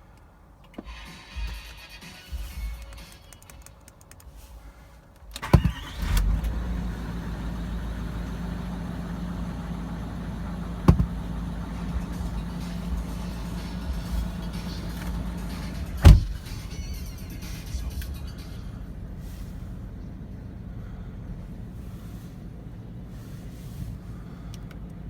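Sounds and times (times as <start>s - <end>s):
diesel engine starting and idling: 0.0s - 25.0s.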